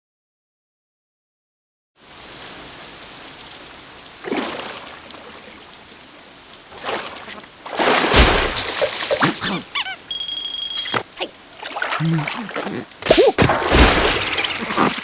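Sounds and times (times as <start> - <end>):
steady rain falling: 2.0 - 15.0.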